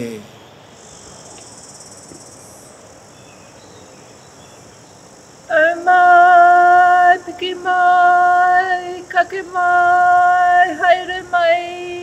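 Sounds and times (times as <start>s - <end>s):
high insect hum: 0.0s - 12.0s.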